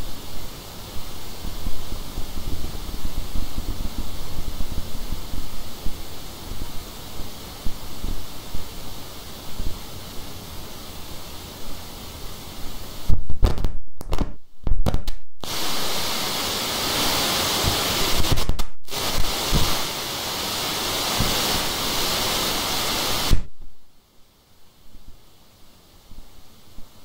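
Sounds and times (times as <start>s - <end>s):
loud steady hiss: 0.0s - 27.0s.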